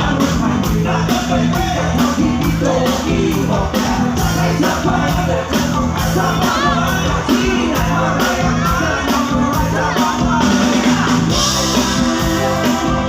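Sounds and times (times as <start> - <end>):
drum and cymbal beat: 0.0 - 13.0
live dance band playing: 0.0 - 13.0
person singing: 0.0 - 13.0.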